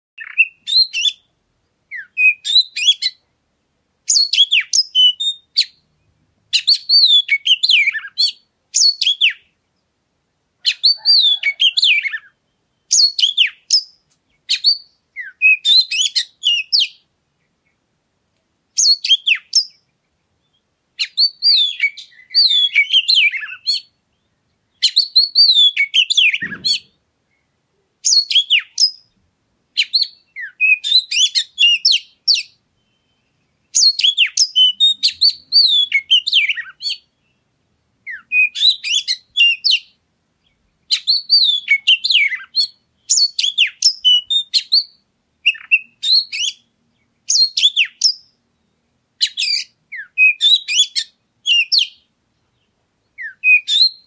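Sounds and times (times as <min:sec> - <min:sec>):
bird singing whistles and chirps: 0:00.2 - 0:01.3, 0:01.9 - 0:03.2, 0:04.1 - 0:09.6, 0:10.6 - 0:17.0, 0:18.8 - 0:29.2, 0:29.8 - 0:37.5, 0:38.1 - 0:46.7, 0:47.3 - 0:54.0.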